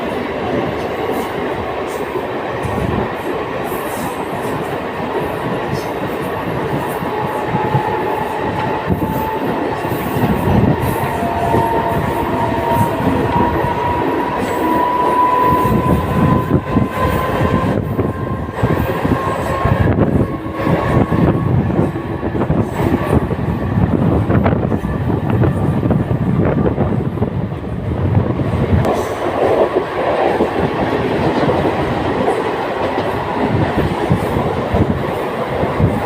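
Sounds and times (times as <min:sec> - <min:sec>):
train wheels rattling over track: 0:00.0 - 0:36.0.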